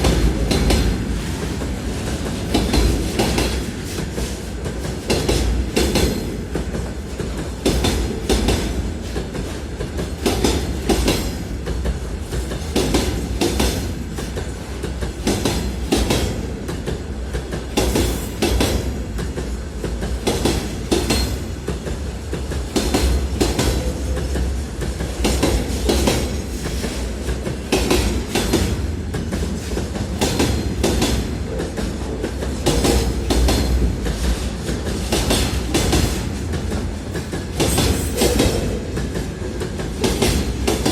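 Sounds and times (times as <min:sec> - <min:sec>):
freight train wheels clicking: 0:00.0 - 0:40.9.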